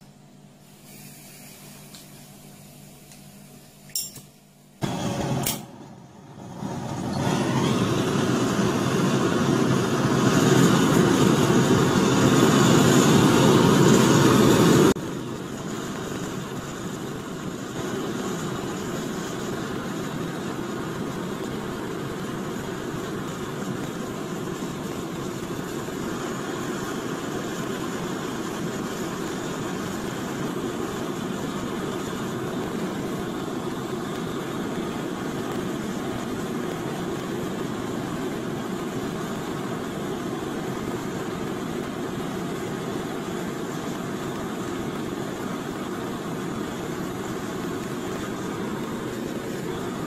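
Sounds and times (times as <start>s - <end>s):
blowtorch flame burning: 0.0s - 50.0s.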